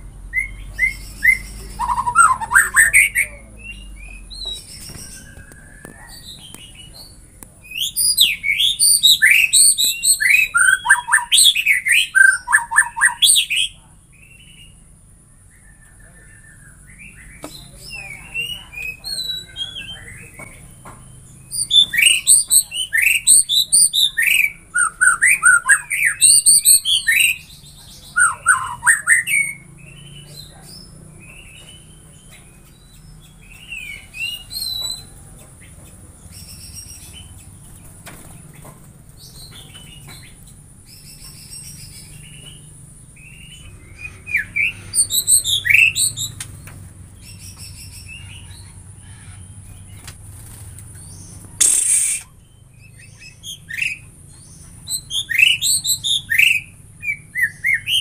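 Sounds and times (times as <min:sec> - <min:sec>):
bird singing whistles and trills: 0:00.2 - 0:14.8, 0:15.4 - 0:35.2, 0:39.2 - 0:48.7, 0:51.0 - 0:58.0.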